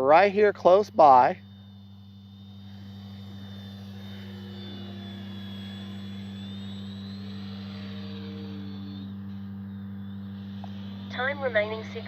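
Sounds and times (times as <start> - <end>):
model airplane motor whining: 0.0 - 12.0
steady low hum: 0.0 - 12.0.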